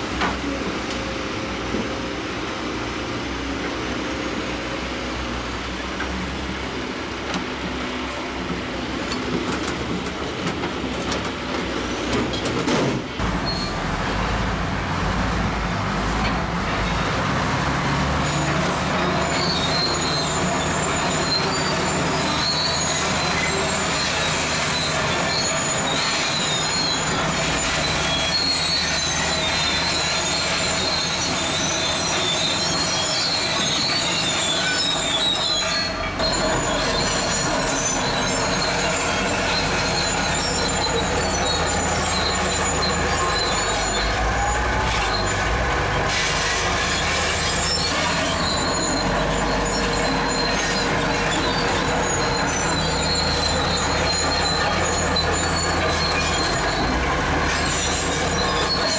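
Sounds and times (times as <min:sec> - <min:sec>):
bulldozer diesel engine rumble: 0:00.0 - 0:58.9
steel tracks squealing: 0:03.7 - 0:14.4, 0:16.0 - 0:58.9.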